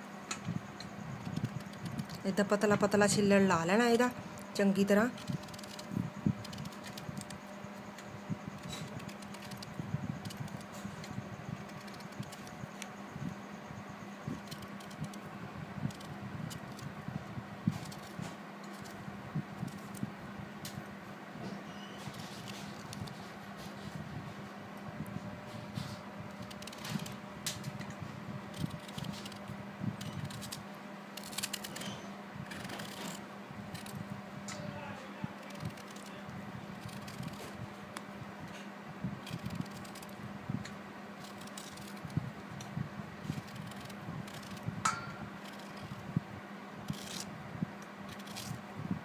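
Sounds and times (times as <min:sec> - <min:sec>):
steady low hum: 0:00.0 - 0:49.0
blade scraping mango skin: 0:00.7 - 0:37.8, 0:38.5 - 0:46.0, 0:46.8 - 0:47.3, 0:48.1 - 0:48.6.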